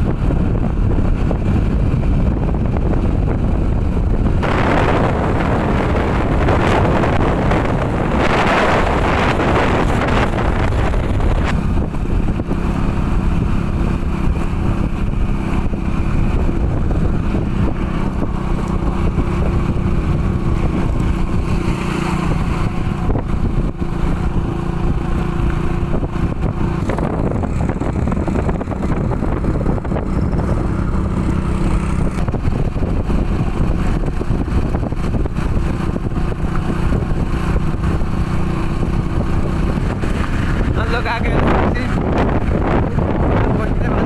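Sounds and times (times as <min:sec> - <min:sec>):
road noise: 0:00.0 - 0:44.0
vehicle engine droning: 0:00.0 - 0:44.0.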